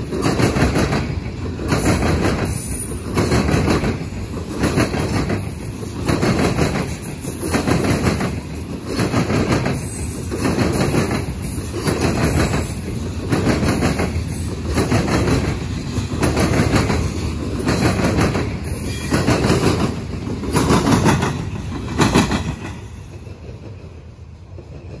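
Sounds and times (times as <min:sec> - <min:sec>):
train wheels clacking over rail joints: 0:00.0 - 0:25.0.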